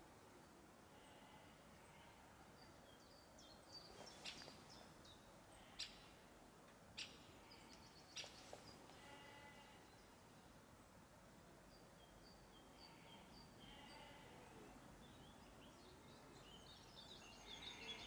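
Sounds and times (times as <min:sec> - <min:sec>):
songbird chirps: 0:00.0 - 0:18.0.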